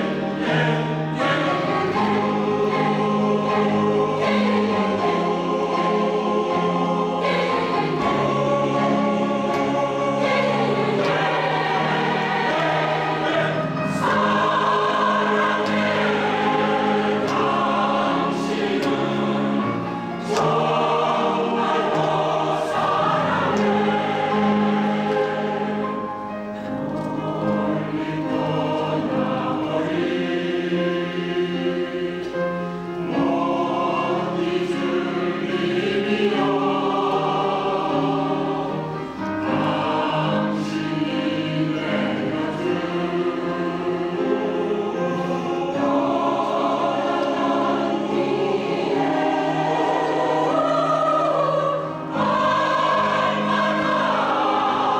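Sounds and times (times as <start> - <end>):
piano accompaniment: 0.0 - 54.9
women's choir singing: 0.0 - 54.9.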